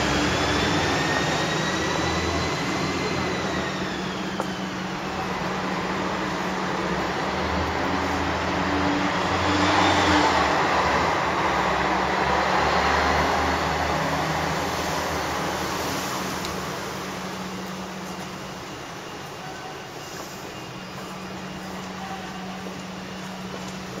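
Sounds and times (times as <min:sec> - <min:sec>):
street noise: 0:00.0 - 0:24.0.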